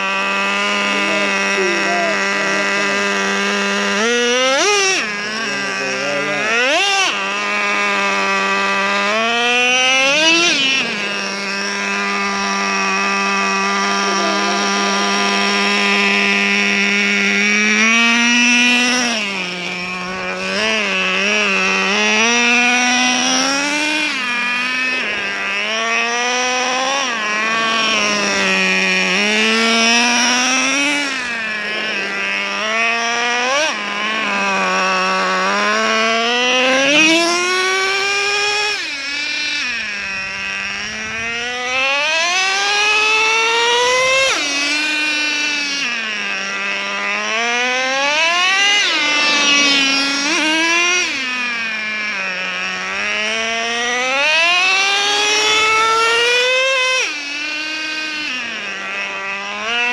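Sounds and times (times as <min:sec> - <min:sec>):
small nitro engine idling and revving: 0:00.0 - 0:59.9.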